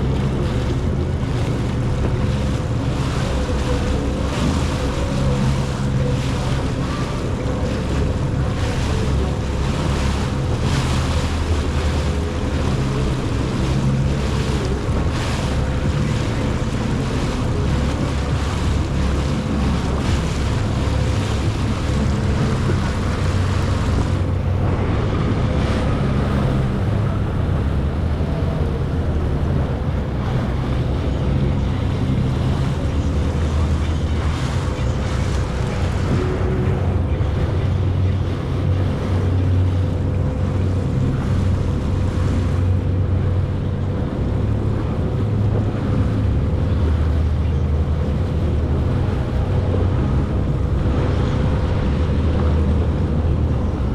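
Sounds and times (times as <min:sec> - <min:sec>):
jet ski engine running: 0:00.0 - 0:53.9
water rushing and spray: 0:00.0 - 0:53.9
wind buffeting microphone: 0:00.0 - 0:53.9.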